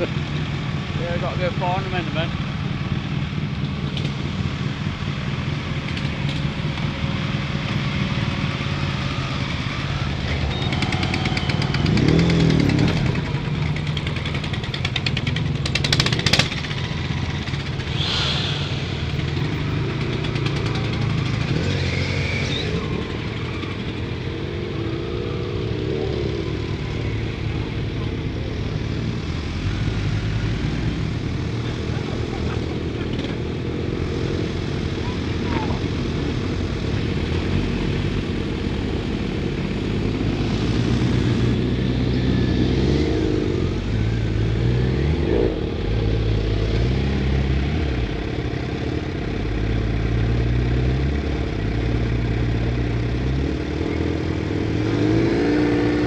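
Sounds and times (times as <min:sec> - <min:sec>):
motorcycles rolling past: 0:00.0 - 0:56.0.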